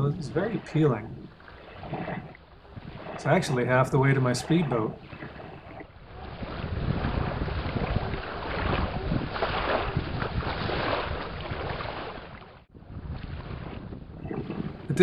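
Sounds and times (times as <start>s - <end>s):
water splashing against boat hull: 0.0s - 15.0s
wind buffeting microphone: 0.0s - 15.0s.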